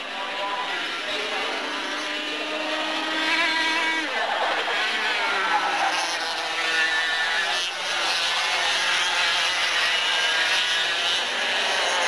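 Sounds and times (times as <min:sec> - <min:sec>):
kart engines racing past: 0:00.0 - 0:12.0.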